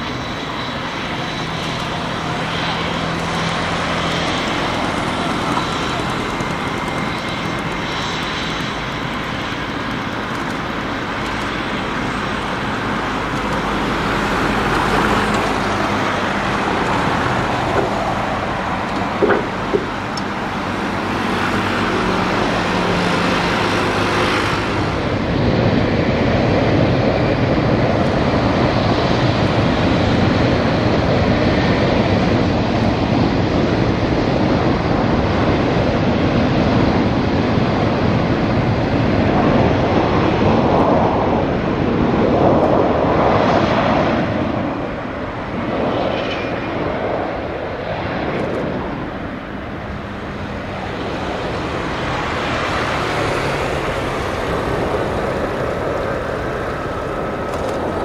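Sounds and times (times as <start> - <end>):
jet engines running at low power: 0.0 - 58.0.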